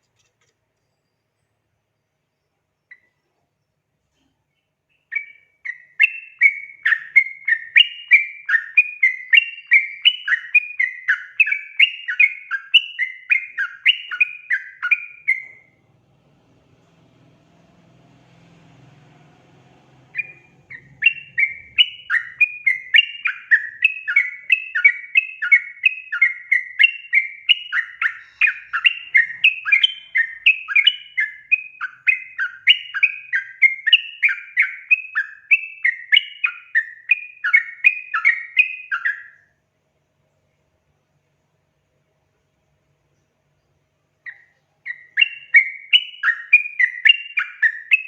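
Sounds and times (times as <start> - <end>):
bulbul singing: 4.6 - 39.5, 43.1 - 48.0.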